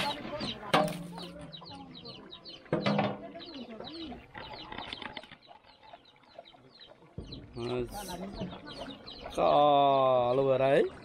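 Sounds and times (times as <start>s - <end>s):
birds chirping high notes: 0.0s - 11.0s.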